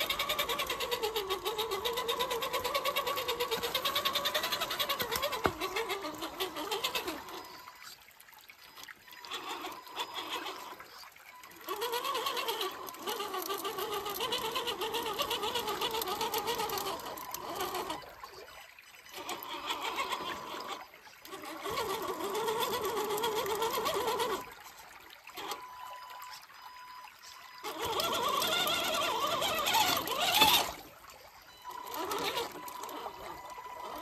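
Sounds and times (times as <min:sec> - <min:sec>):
toy truck motor whining: 0:00.0 - 0:34.0.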